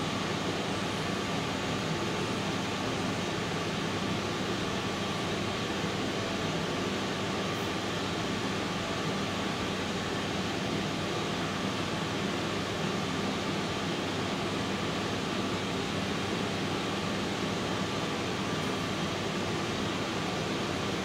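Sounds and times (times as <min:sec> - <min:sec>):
ventilation hiss: 0:00.0 - 0:21.0.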